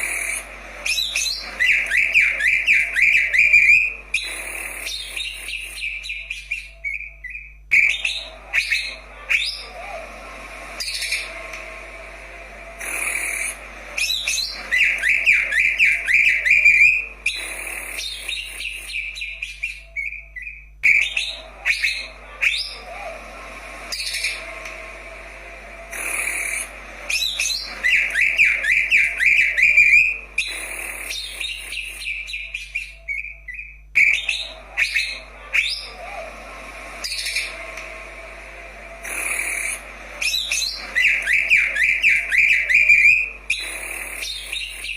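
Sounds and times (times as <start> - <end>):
bird chirping and trilling: 0.0 - 9.9, 12.8 - 23.1, 25.9 - 36.2, 37.0 - 37.6, 39.0 - 44.9.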